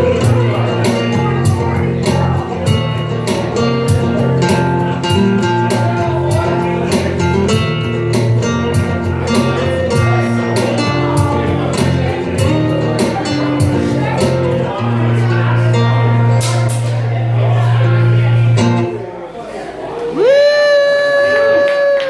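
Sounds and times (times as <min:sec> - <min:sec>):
live rap rock band: 0:00.0 - 0:18.9.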